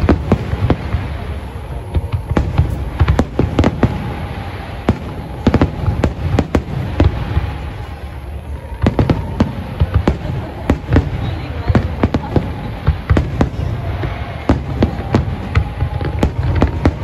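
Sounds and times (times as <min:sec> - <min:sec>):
fireworks bursting with loud bangs: 0:00.0 - 0:17.0.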